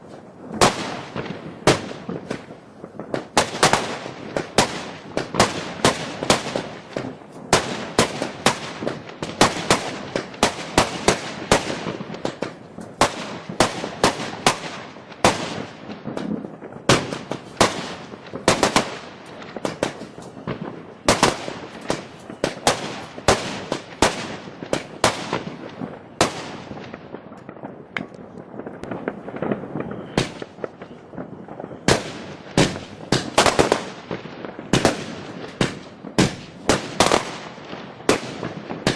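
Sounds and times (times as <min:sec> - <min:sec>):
fireworks banging: 0:00.0 - 0:38.9
fireworks crackling: 0:00.0 - 0:38.9.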